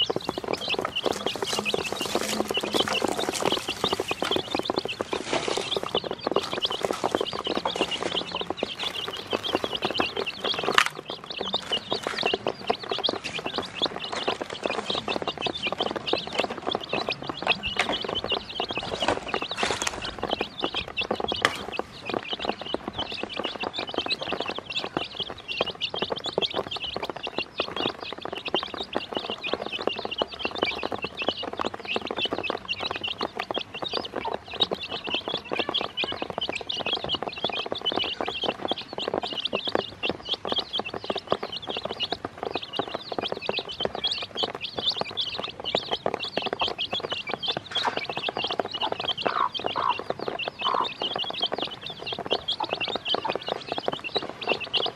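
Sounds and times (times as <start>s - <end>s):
beaks pecking plastic basin: 0.0s - 54.9s
chicks peeping: 0.0s - 54.9s.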